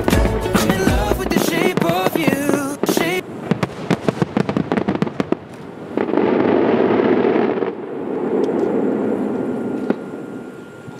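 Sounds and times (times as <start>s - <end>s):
fireworks cracking and popping: 0.0s - 9.1s.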